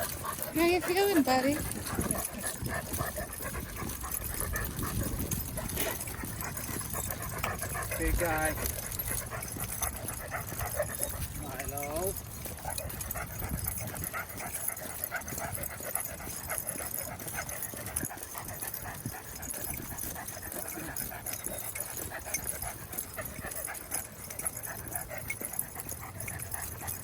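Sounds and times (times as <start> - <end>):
dogs panting: 0.0 - 27.0
dogs whining: 0.0 - 27.0.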